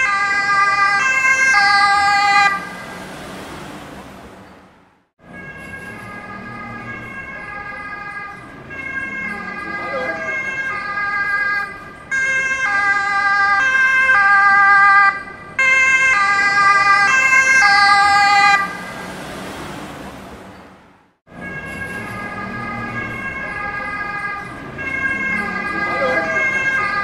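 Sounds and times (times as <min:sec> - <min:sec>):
two-tone siren: 0:00.0 - 0:03.9, 0:05.2 - 0:20.0, 0:21.3 - 0:27.0
street traffic noise: 0:00.0 - 0:27.0.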